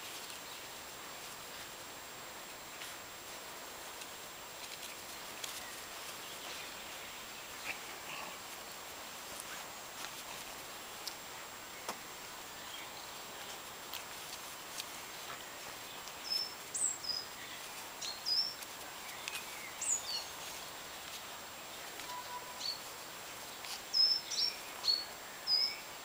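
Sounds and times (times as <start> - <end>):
songbirds chirping: 0.0 - 26.0
steady outdoor hiss: 0.0 - 26.0.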